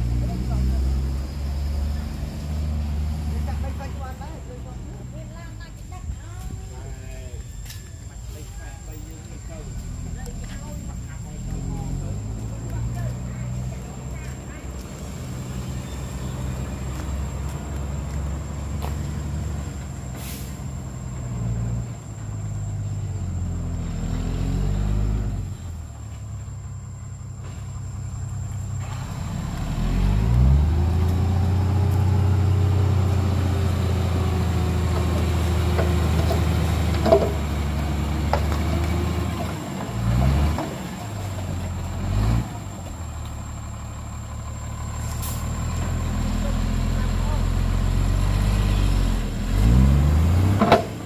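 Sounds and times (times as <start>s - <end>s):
diesel truck engine revving: 0.0s - 5.3s, 9.4s - 51.0s.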